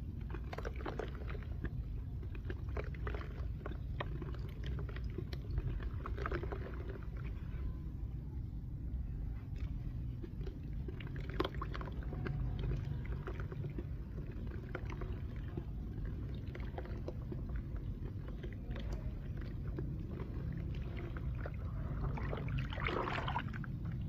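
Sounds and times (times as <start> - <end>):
dry clay crunching and crumbling: 0.0 - 7.7, 8.6 - 24.0
steady low rumble: 0.0 - 24.0.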